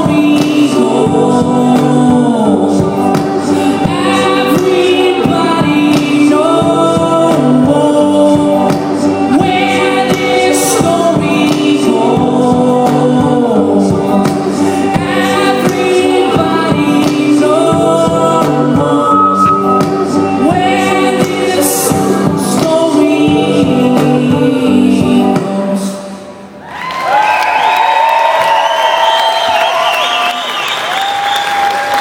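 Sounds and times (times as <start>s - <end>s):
live band playing: 0.0s - 26.6s.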